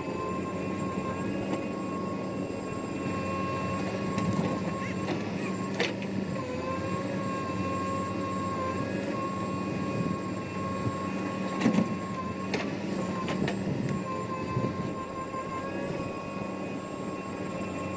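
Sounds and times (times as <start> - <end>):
diesel engine whining: 0.0 - 17.9.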